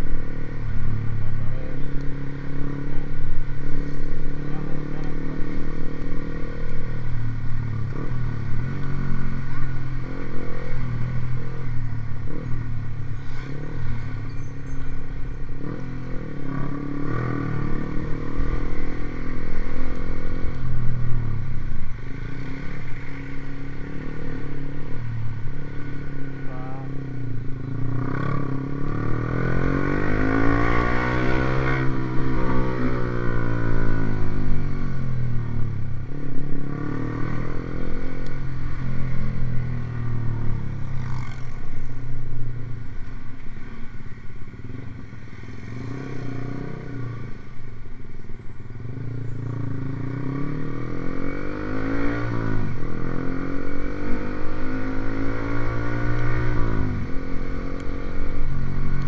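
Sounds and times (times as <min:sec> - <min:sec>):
motorcycle engine revving: 0:00.0 - 0:43.1, 0:44.4 - 0:47.7, 0:48.8 - 0:59.0.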